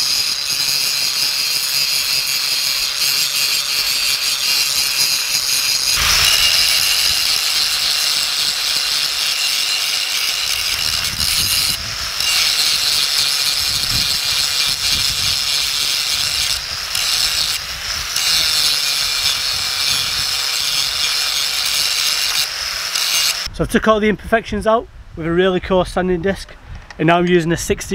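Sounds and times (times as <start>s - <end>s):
angle grinder grinding metal: 0.0s - 23.5s.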